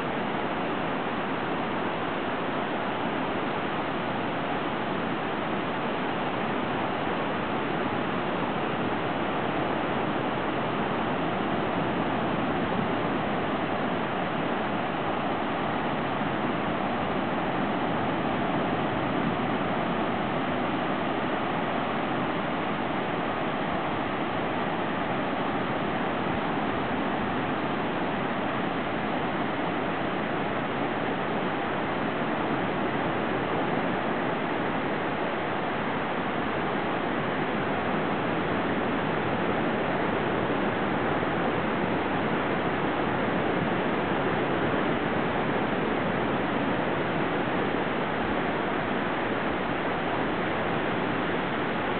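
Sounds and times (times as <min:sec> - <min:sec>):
ocean surf on a beach: 0:00.0 - 0:51.9.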